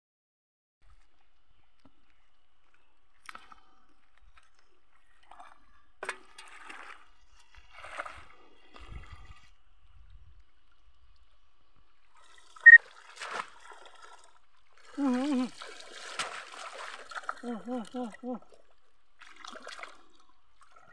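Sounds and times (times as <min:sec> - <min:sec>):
muddy water sloshing and splashing: 0:00.9 - 0:20.9.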